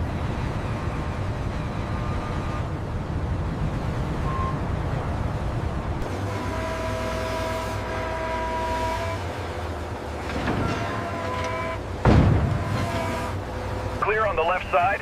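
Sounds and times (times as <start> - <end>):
heavy machinery rumble: 0.0 - 15.0.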